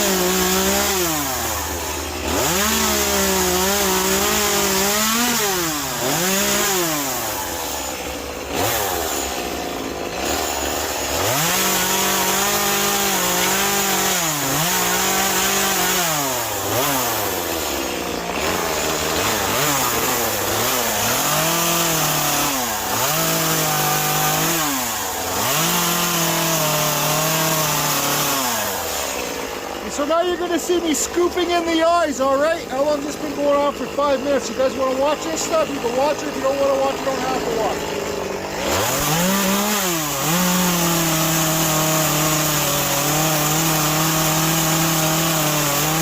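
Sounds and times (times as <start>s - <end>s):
chainsaw revving into wood: 0.0s - 46.0s.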